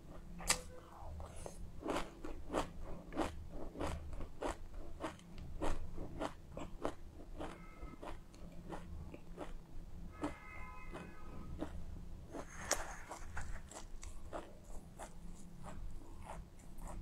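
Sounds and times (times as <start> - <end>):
person chewing seeds: 1.2 - 9.6, 10.9 - 17.0.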